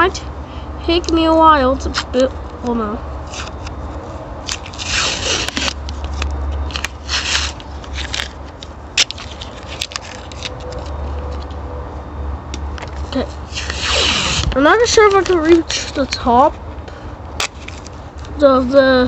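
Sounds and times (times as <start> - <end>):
scraping and crackling handling noises: 1.8 - 11.6, 12.6 - 18.8.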